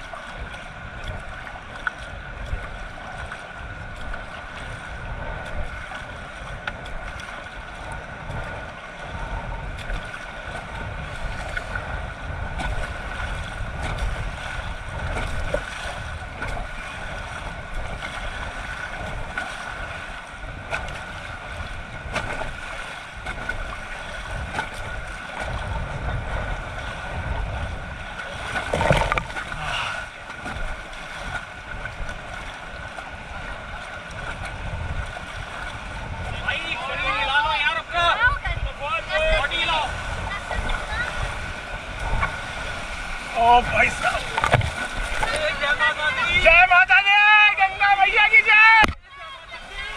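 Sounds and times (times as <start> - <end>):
river water rushing: 0.0 - 49.9
wind buffeting microphone: 0.0 - 49.9.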